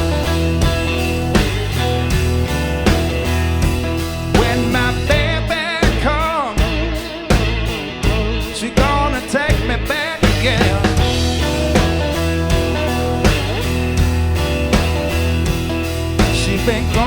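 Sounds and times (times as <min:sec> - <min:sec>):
pitch-bending lead guitar line: 0:00.0 - 0:17.0
rock band playing live: 0:00.0 - 0:17.0.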